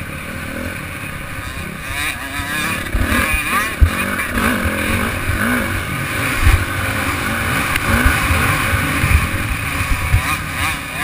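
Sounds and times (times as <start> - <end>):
dirt bike engine revving: 0.0 - 11.0
wind rumble on microphone: 0.8 - 11.0.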